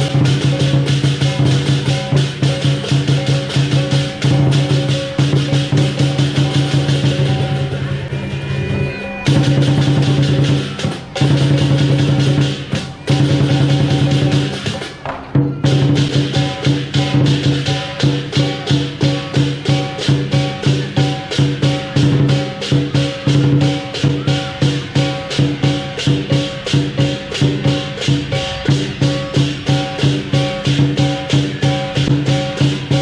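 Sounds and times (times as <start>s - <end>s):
big drum beating: 0.0s - 33.0s
cymbals clashing: 0.0s - 33.0s.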